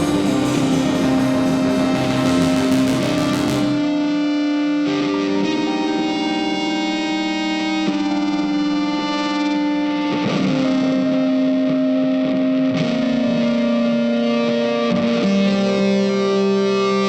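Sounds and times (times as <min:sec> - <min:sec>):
distorted electric guitar sustained notes: 0:00.0 - 0:17.0.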